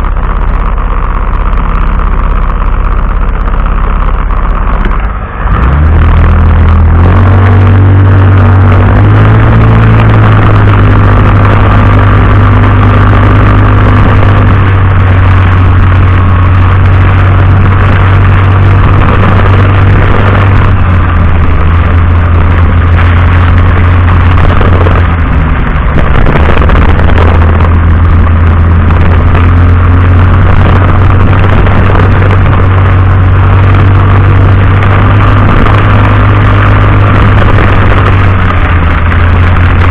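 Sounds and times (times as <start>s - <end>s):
vehicle engine accelerating: 0.0s - 39.9s
road and weather noise hiss: 4.5s - 39.9s.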